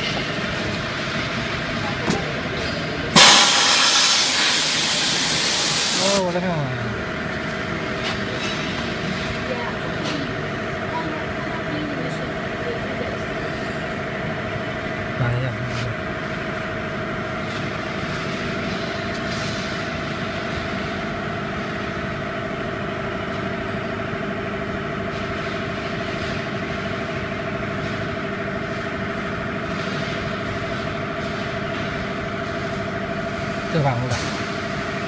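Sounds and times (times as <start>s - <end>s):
workshop machinery humming: 0.0s - 35.0s.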